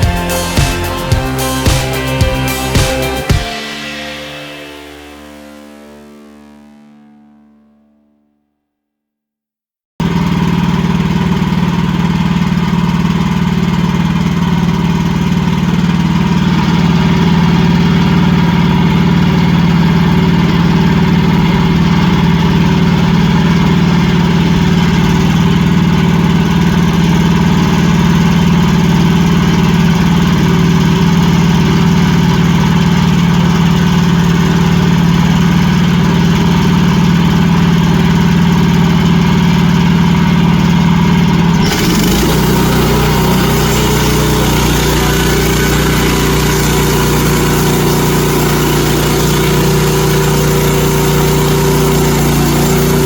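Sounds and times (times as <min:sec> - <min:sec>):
band sawmill running: 0:00.0 - 0:05.4, 0:10.0 - 0:53.0.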